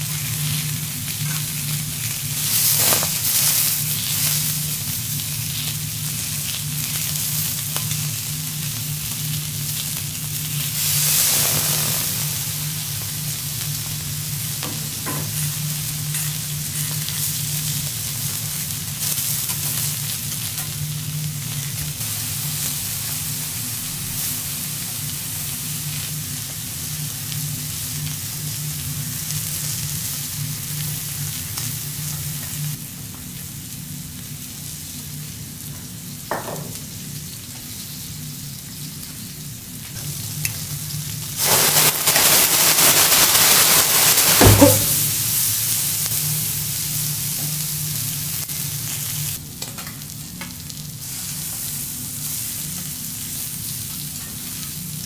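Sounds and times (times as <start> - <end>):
seafood sizzling on griddle: 0.0 - 55.0.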